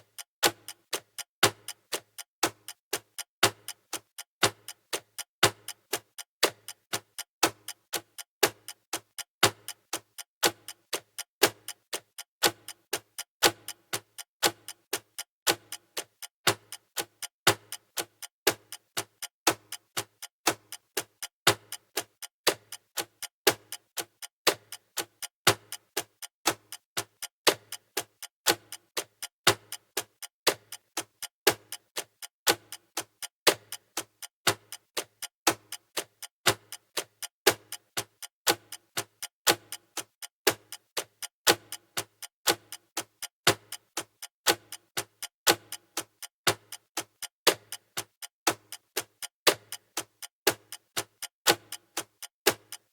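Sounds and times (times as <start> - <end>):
clock ticking: 0.0 - 52.9.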